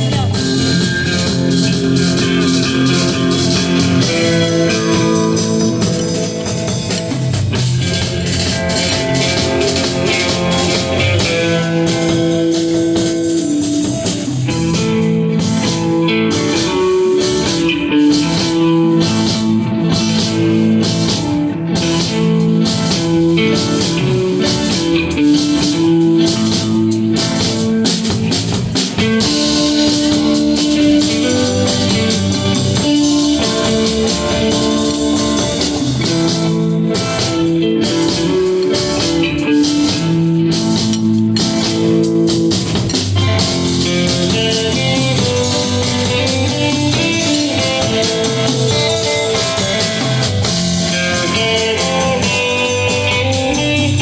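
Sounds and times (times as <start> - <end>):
drum kit: 0.0 - 54.0
guitar melody: 0.0 - 54.0.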